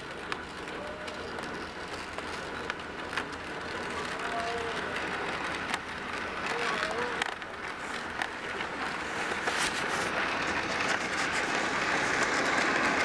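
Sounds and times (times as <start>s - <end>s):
model train wheels and motors rushing: 0.0s - 13.0s.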